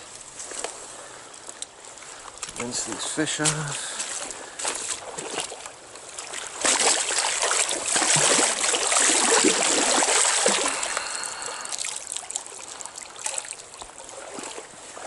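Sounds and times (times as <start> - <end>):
fish splashing through stream water: 2.0 - 15.0.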